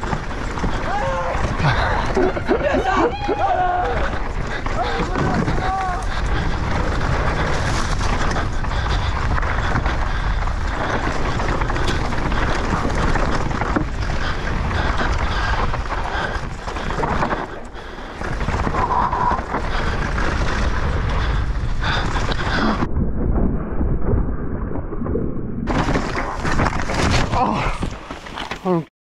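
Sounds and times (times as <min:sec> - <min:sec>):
bike rattling: 0:00.0 - 0:22.9, 0:25.7 - 0:28.7
tyres on loose dirt: 0:00.0 - 0:22.9, 0:25.7 - 0:28.8
wind rushing on microphone: 0:00.0 - 0:26.2.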